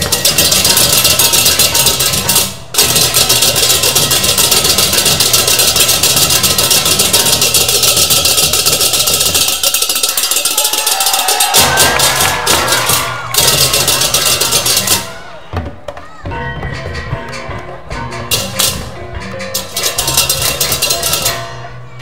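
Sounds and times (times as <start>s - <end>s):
hand cymbals clashing: 0.0s - 15.2s, 18.3s - 21.8s
drums: 0.0s - 22.0s.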